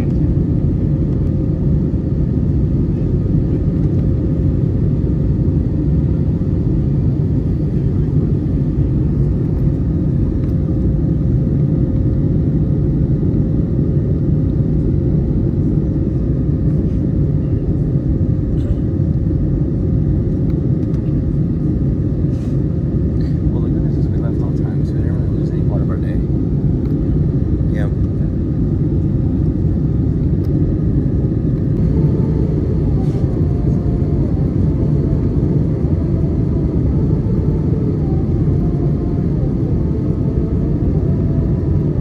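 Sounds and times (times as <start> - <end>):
airplane cabin roar: 0.0 - 42.0
constant hum tone: 0.0 - 42.0.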